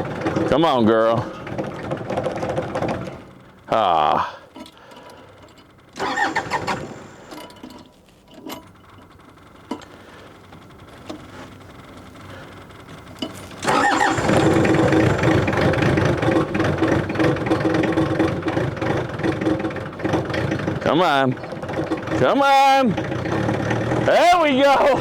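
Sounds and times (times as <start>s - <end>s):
diesel engine cranking: 0.0s - 25.0s.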